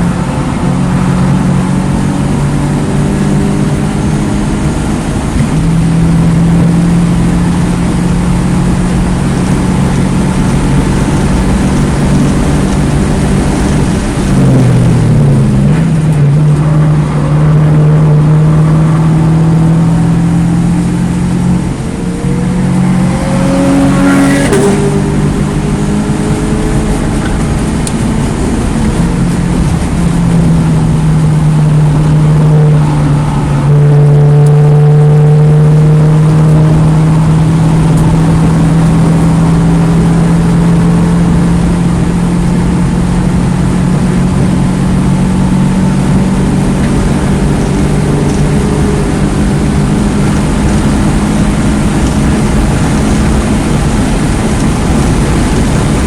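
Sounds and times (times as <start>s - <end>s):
car engine running hard: 0.0s - 56.0s
road and wind noise: 0.0s - 56.0s.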